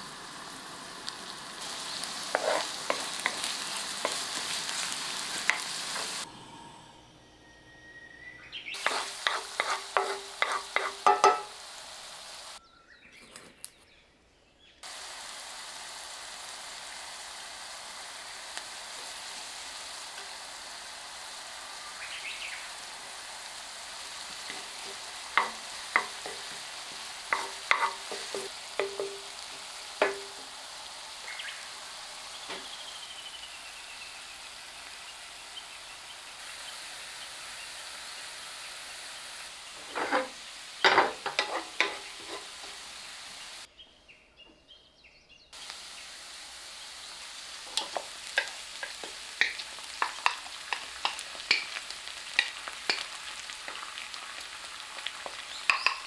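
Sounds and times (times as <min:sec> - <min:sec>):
garlic sizzling in oil: 0:00.0 - 0:06.3, 0:08.6 - 0:12.6, 0:14.8 - 0:43.7, 0:45.5 - 0:56.0.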